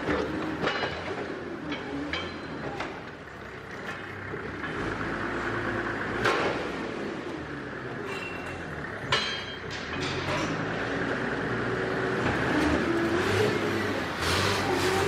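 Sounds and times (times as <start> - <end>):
forklift engine revving: 0.0 - 15.0.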